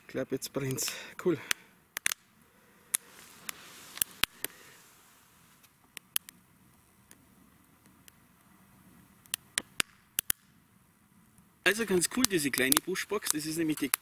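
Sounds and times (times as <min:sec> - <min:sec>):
twig fire crackling and popping: 0:00.0 - 0:14.0.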